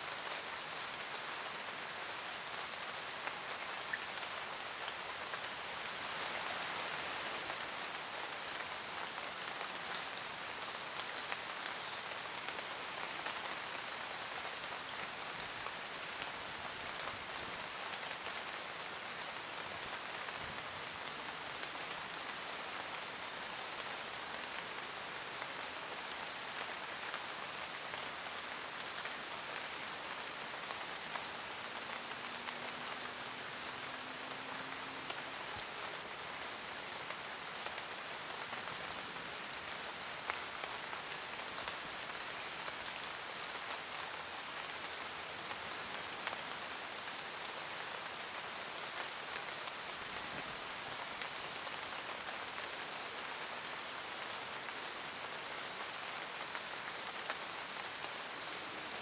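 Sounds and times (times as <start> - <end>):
rain falling in forest: 0.0 - 59.0
raindrops ticking on leaves: 0.0 - 59.0.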